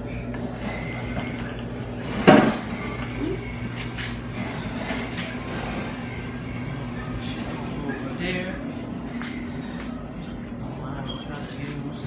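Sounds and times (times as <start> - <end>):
freezer humming: 0.0 - 12.0.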